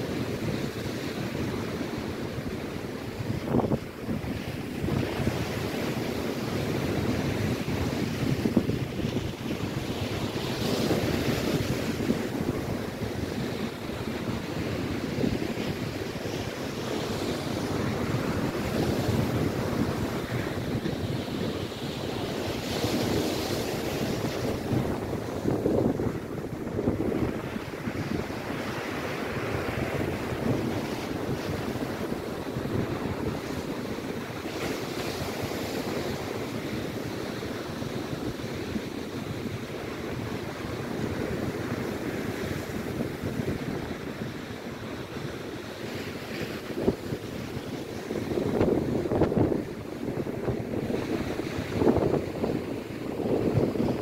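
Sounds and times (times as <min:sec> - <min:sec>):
waves breaking on shore: 0:00.0 - 0:54.0
wind buffeting microphone: 0:00.0 - 0:54.0.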